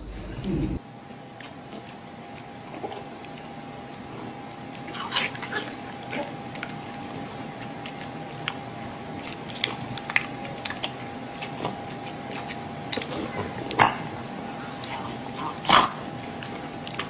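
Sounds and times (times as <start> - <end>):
dog chewing food: 1.1 - 17.0.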